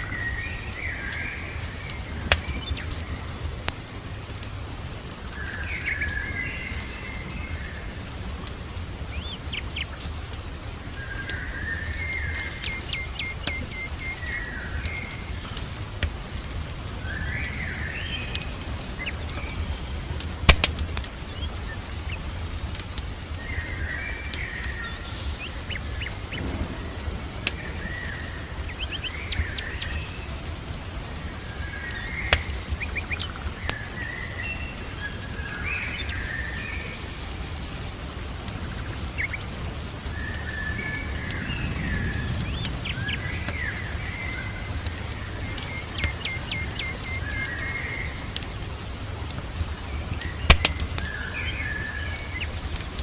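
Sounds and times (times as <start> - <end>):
birds chirping: 0.0 - 53.0
fire sharp pops: 0.0 - 53.0
fireplace crackling: 0.0 - 53.0
rain hissing: 0.0 - 53.0.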